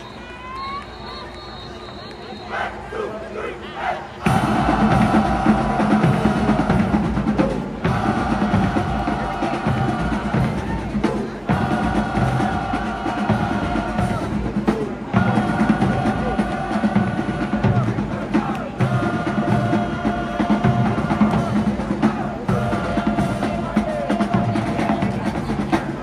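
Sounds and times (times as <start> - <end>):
marching drumline: 2.4 - 26.0.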